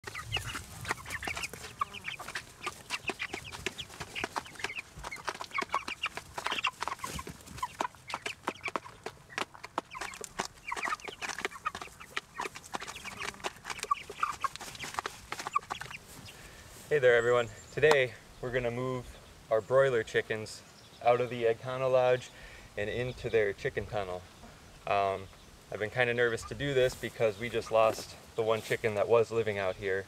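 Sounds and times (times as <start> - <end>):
chicks peeping and clucking: 0.0 - 30.0.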